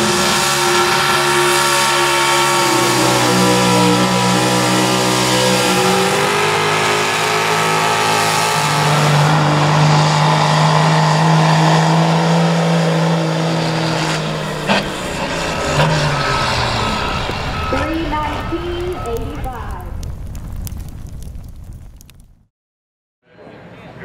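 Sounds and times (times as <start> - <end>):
truck engine at full throttle: 0.0 - 19.5.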